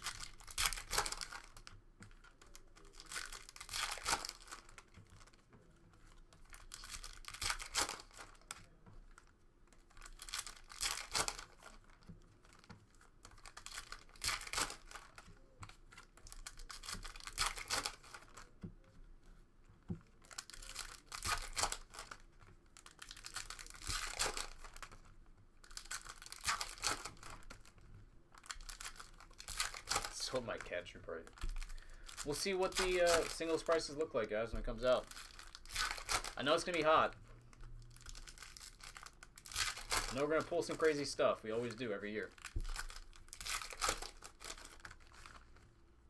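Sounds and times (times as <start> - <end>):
foil wrappers tearing and crinkling: 0.0 - 5.4, 6.4 - 9.3, 9.9 - 18.6, 20.1 - 27.8, 28.4 - 45.6.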